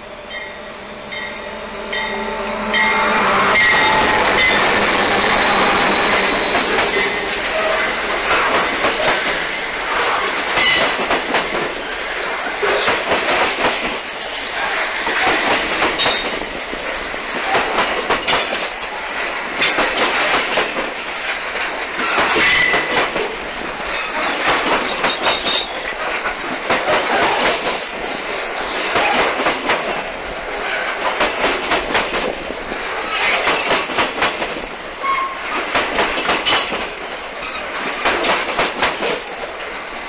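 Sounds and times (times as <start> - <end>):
train wheels clattering over rail joints: 3.6 - 40.0.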